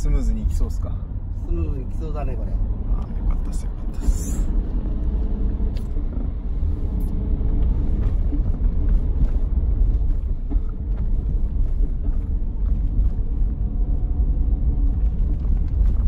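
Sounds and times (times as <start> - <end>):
car road rumble from inside: 0.0 - 16.0.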